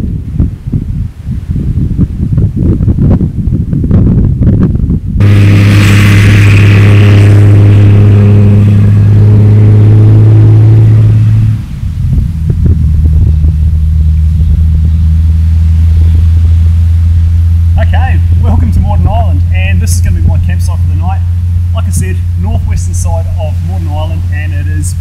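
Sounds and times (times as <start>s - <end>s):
loud low hum: 0.0s - 25.0s.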